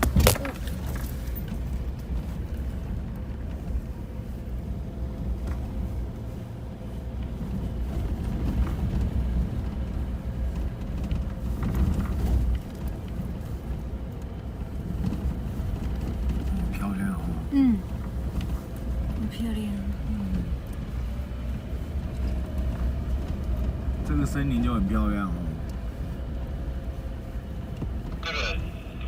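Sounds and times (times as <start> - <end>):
engine and tyre rumble: 0.0 - 29.0.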